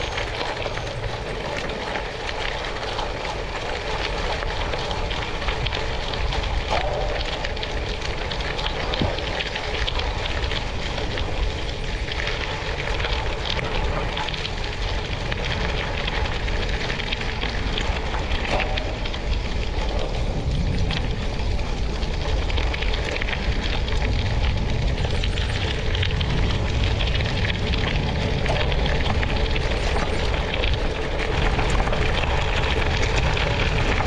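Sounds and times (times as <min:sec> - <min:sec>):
tyres rolling over gravel: 0:00.0 - 0:34.0.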